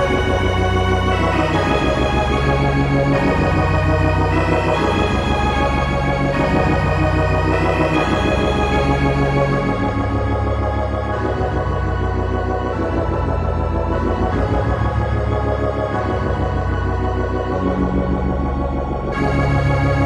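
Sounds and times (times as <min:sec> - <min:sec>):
slow synthesizer chords over bass: 0:00.0 - 0:20.0.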